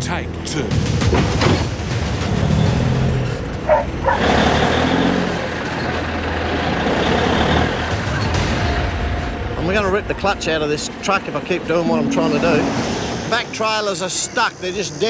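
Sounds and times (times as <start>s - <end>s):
truck diesel engine under load: 1.7s - 14.4s.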